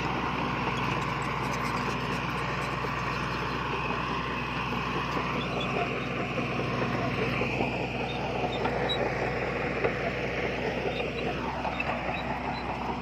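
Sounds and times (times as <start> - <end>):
diesel engine running under load: 0.0 - 13.0
faint knocks and squeaks: 0.6 - 3.7, 5.0 - 13.0.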